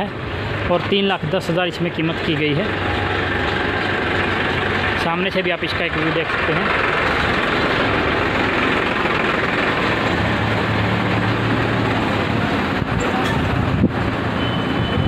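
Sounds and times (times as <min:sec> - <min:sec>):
vehicle engine noise: 0:00.0 - 0:15.0.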